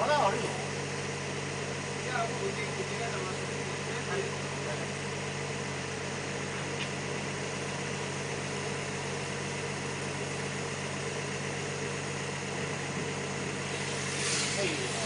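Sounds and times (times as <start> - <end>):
machinery humming with hiss: 0.4 - 15.0.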